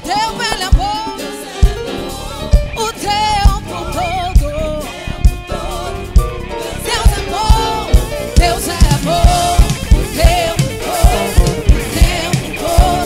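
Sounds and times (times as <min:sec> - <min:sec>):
drum kit beat: 0:00.0 - 0:13.0
keyboard: 0:00.0 - 0:13.0
vocalists singing: 0:00.0 - 0:13.0.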